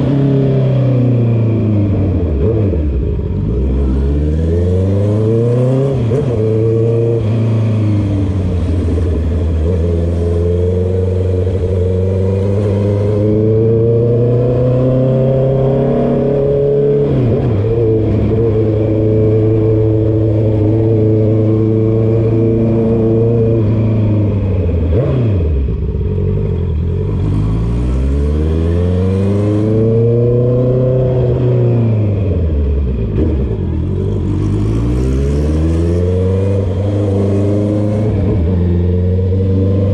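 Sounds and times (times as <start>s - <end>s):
loud motorcycle engine: 0.0s - 39.9s.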